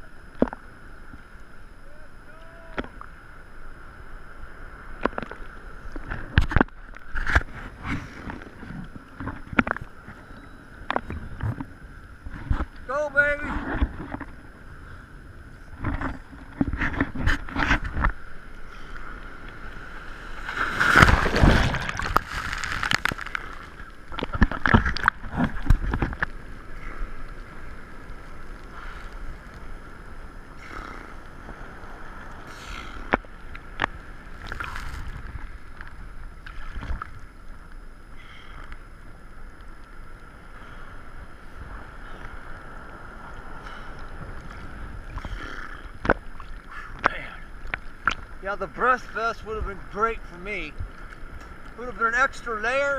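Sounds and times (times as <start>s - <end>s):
sea water splashing: 0.2s - 52.9s.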